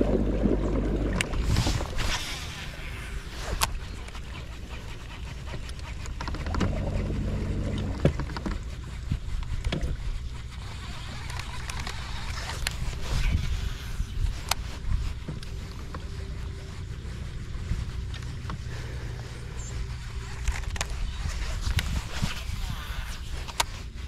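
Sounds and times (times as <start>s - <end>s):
electric boat motor humming: 0.0s - 24.0s.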